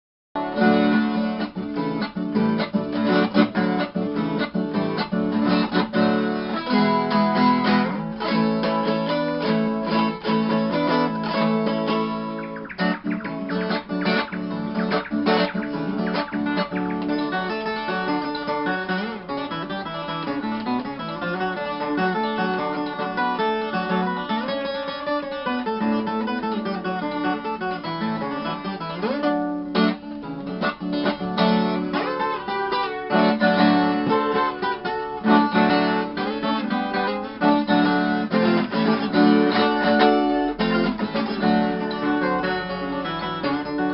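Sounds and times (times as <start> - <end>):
acoustic guitar country music: 0.4 - 43.9.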